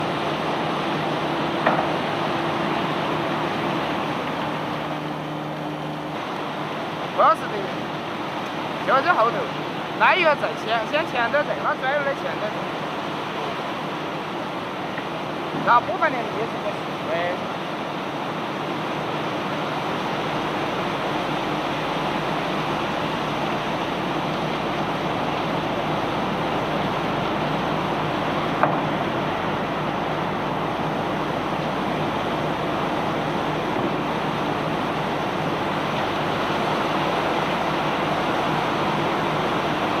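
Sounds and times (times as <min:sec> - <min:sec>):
low machinery hum: 0:00.0 - 0:40.0.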